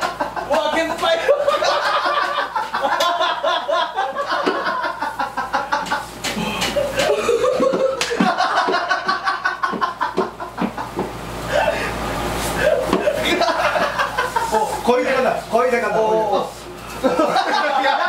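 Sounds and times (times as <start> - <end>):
men laughing hard: 0.0 - 14.8, 16.9 - 18.0.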